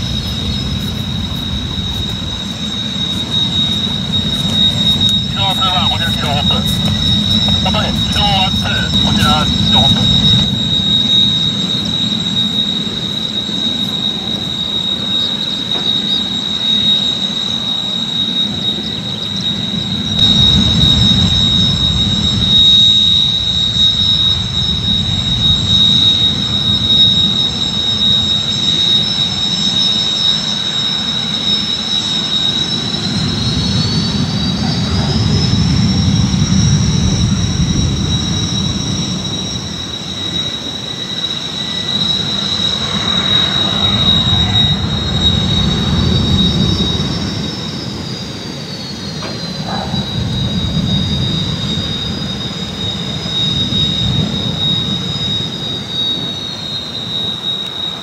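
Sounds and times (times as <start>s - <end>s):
higher rising jet whine: 0.0s - 58.0s
jet engines whining: 0.0s - 58.0s.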